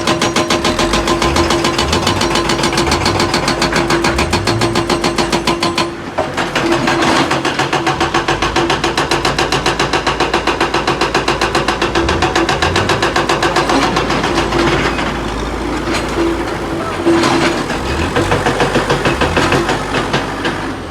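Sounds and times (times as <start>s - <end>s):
excavator engine running: 0.0s - 20.9s
hydraulic breaker hammering stone: 0.0s - 20.9s.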